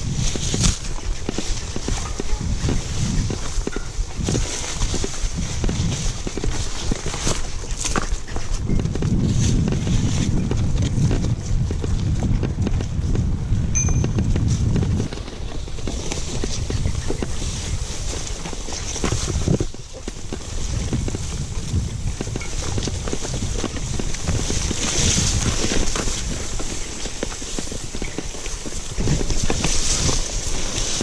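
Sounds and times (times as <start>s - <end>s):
grass swishing against bike: 0.0s - 10.4s, 14.4s - 31.0s
bike rattling over bumps: 0.0s - 31.0s
wind on microphone: 0.0s - 31.0s.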